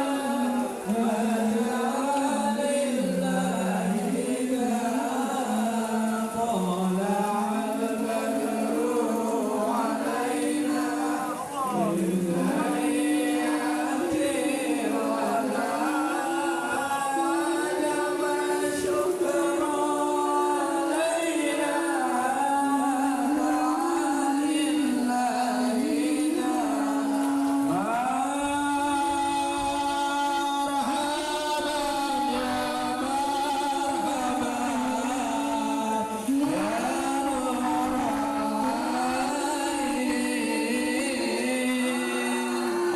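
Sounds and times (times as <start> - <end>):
voices singing devotional chant: 0.0 - 42.9.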